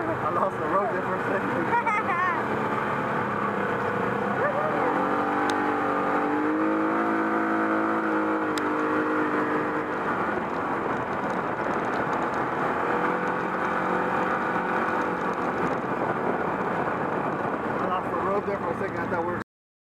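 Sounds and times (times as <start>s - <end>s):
off-road vehicle engine running: 0.0s - 19.4s
steady rushing noise: 0.1s - 19.4s.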